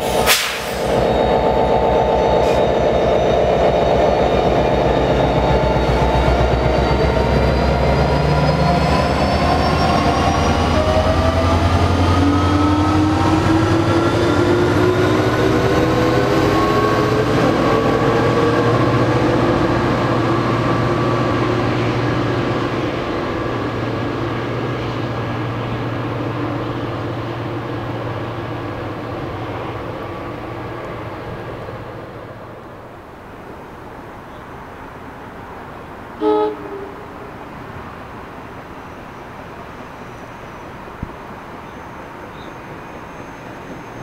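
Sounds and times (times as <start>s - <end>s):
train rail rumble: 0.0s - 44.0s.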